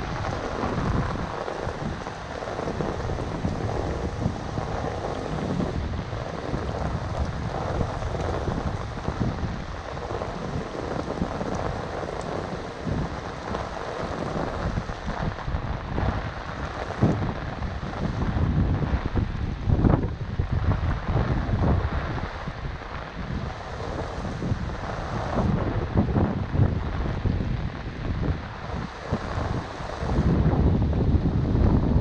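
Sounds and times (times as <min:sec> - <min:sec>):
rain on a flooded street: 0:00.0 - 0:32.0.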